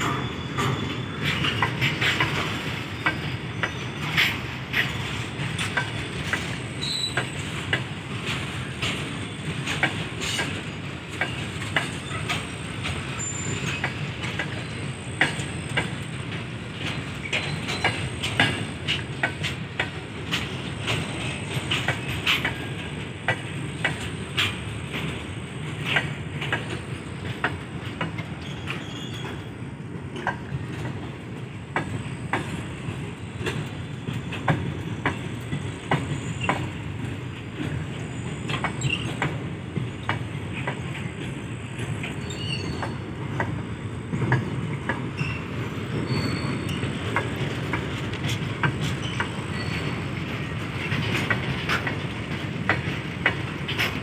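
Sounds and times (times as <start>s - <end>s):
train wagons clicking and clanking: 0.0s - 54.0s
train wheels rumbling on rail: 0.0s - 54.0s.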